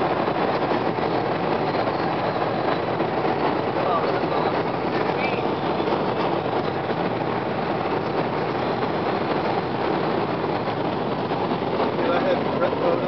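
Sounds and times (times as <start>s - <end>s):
car engine wind and tyre noise: 0.0s - 13.0s.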